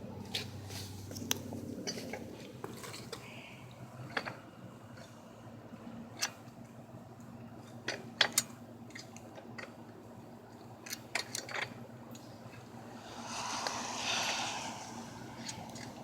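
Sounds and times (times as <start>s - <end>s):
tire and rim clicking and knocking: 0.0s - 16.0s.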